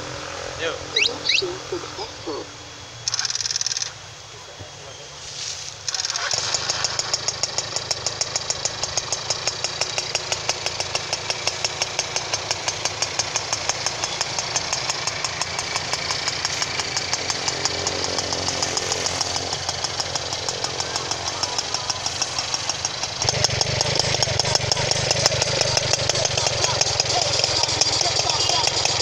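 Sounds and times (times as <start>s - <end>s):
moped engine idling: 0.0s - 29.0s.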